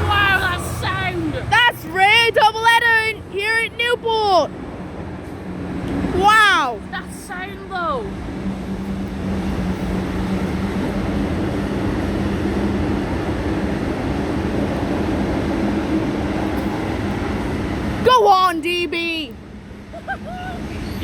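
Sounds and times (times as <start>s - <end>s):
diesel locomotive engine drone: 0.0s - 21.0s
train rumbling on rails: 0.0s - 21.0s.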